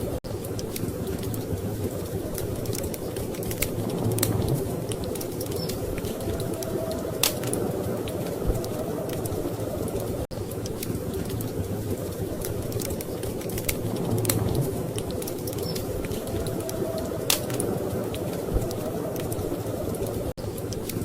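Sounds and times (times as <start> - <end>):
low rumble of storm wind: 0.0 - 21.0
wood fire crackling and popping: 0.0 - 21.0.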